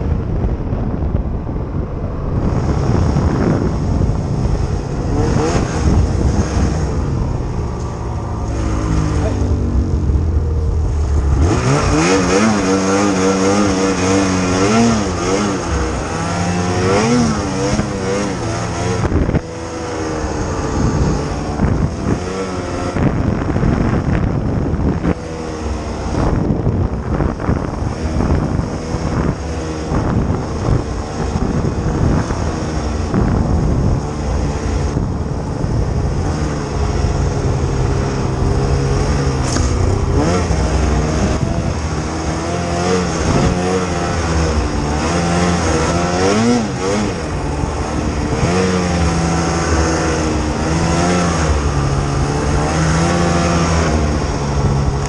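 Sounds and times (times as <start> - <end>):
snowmobile engine revving: 2.1 - 55.0.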